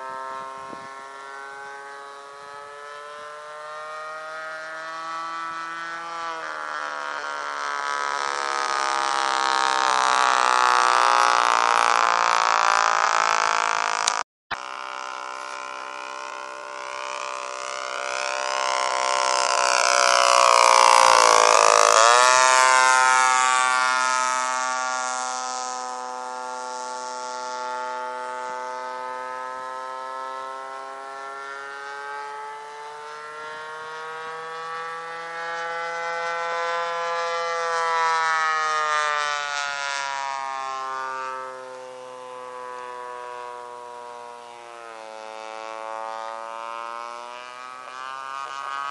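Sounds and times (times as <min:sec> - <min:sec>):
model airplane motor droning: 0:00.0 - 0:48.9.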